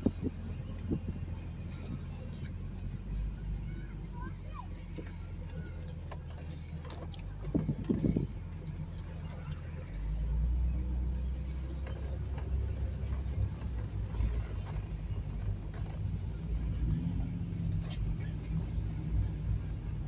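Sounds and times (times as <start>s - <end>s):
car engine at low revs: 0.0s - 20.0s
road and tyre rumble: 0.0s - 20.0s.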